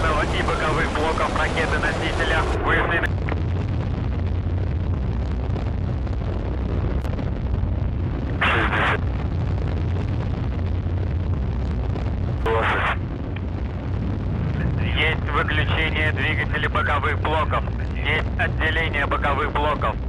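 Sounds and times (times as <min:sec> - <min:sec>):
rocket engines rumbling: 0:00.0 - 0:20.0.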